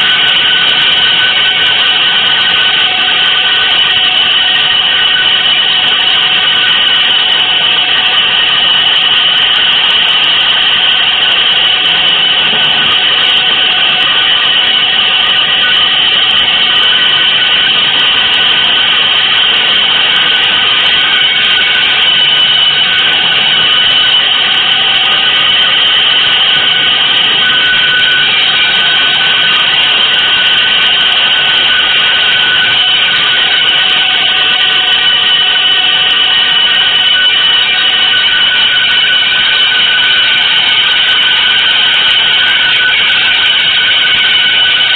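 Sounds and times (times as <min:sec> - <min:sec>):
dense noise drone: 0:00.0 - 0:44.9
held high tones: 0:00.0 - 0:44.9.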